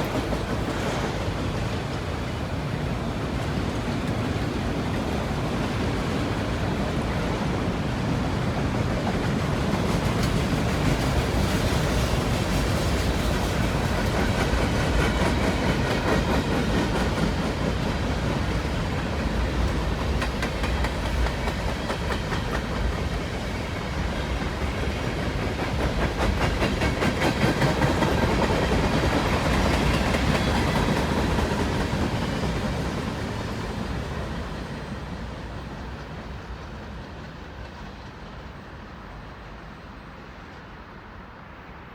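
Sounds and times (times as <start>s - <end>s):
wheels clacking over rail joints: 0.0s - 34.7s
freight train rumbling past: 0.0s - 41.9s.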